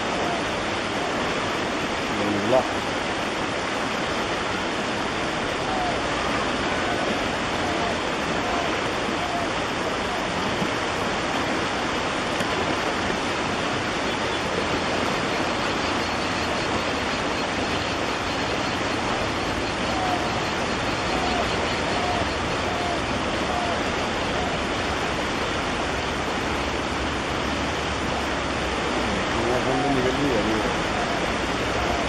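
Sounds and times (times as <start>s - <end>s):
floodwater rushing over edge: 0.0s - 32.0s.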